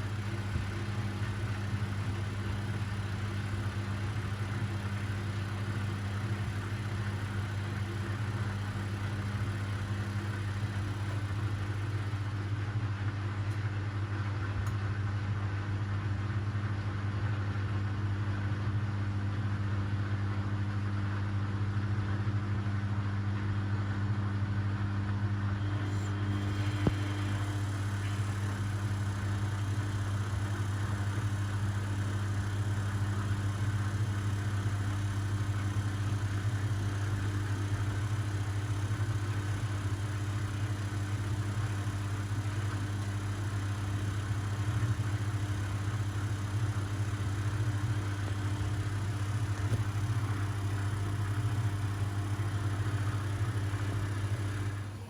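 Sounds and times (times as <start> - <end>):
washing machines and dryers humming: 0.0 - 22.0, 22.6 - 55.0.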